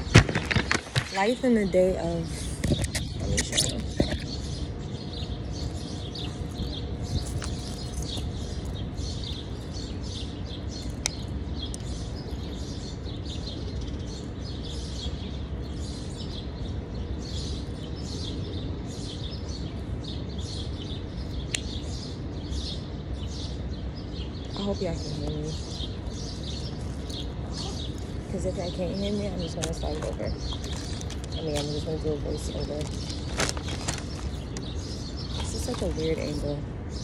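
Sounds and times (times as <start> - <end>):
low background rumble: 0.0 - 37.0
small birds chirping: 0.0 - 37.0.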